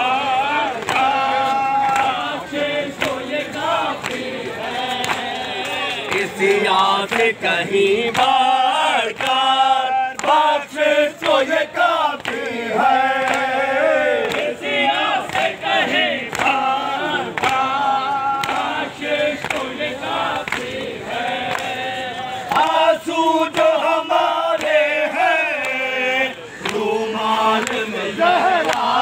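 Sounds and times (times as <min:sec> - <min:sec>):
men chanting call and response: 0:00.0 - 0:29.0.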